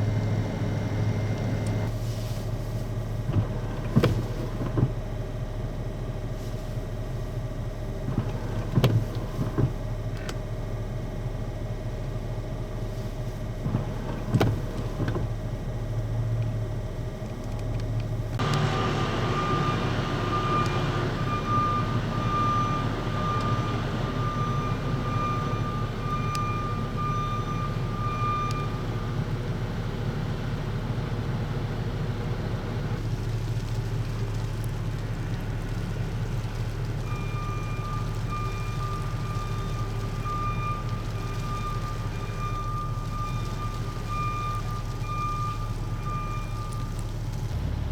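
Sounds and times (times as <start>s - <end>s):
road and tyre noise: 0.0s - 47.9s.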